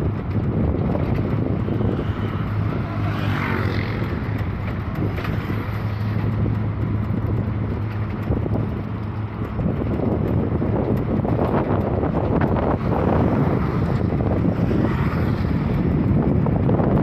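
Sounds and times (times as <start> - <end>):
bus engine drone: 0.0 - 17.0
road and wind noise: 0.0 - 17.0.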